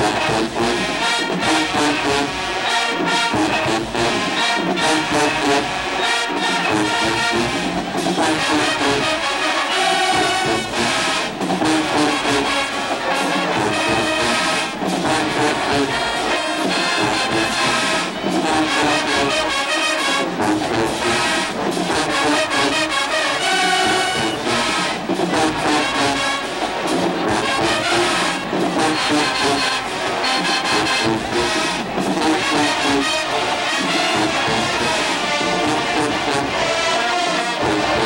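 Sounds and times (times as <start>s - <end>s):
marching band brass: 0.0s - 38.0s
steady drum beat: 0.0s - 38.0s.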